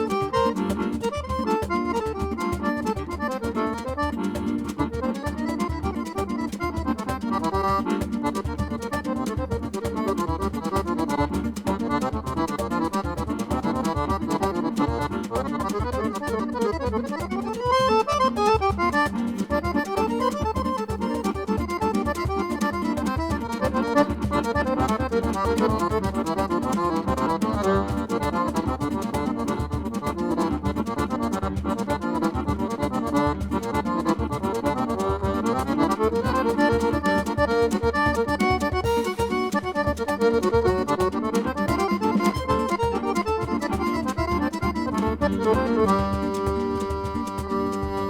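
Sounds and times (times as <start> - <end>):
accordion playing: 0.0 - 48.0.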